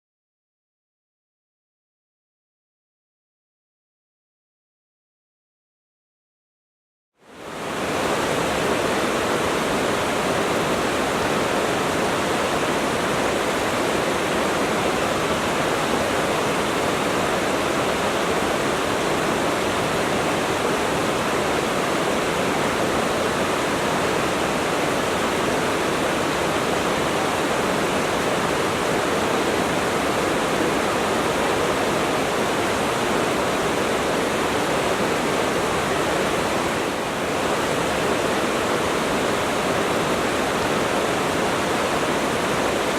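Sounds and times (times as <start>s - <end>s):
water rushing in a stream: 7.2s - 42.9s.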